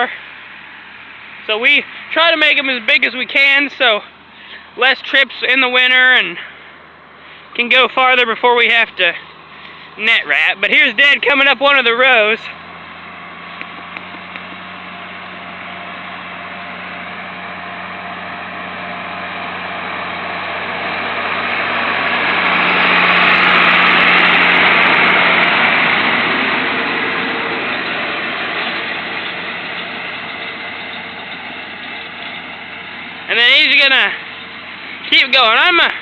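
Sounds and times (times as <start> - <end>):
tractor and baler running: 0.0 - 36.0.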